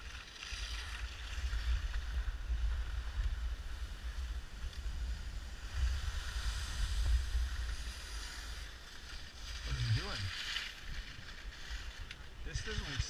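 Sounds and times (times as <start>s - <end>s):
skis sliding on snow: 0.0s - 13.0s.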